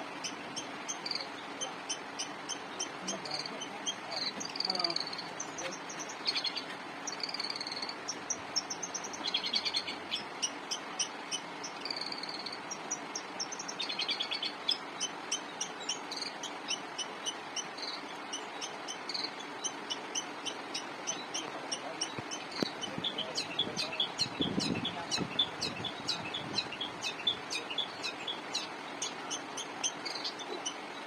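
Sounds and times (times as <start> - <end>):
bird singing chirps and trills: 0.0 - 31.0
steady background hiss: 0.0 - 31.0.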